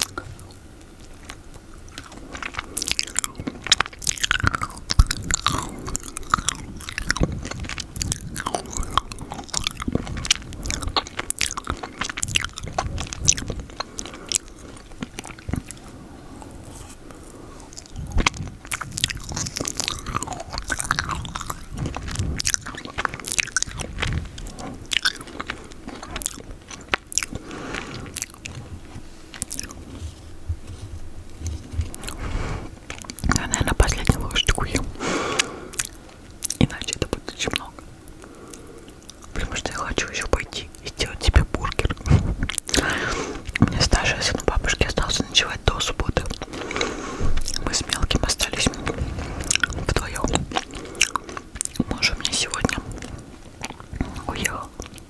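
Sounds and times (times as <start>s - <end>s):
lip and tongue clicks: 0.0s - 28.6s, 32.9s - 55.0s
chewing: 0.0s - 55.0s
sticky wet mouth smacking: 2.0s - 15.9s, 17.7s - 28.6s, 32.9s - 38.2s, 39.0s - 55.0s.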